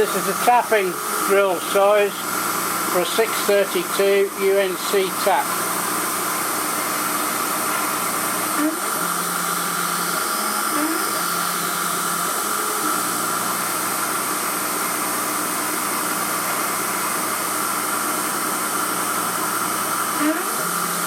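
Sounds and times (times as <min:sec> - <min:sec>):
milling machine motor whine: 0:00.0 - 0:21.0.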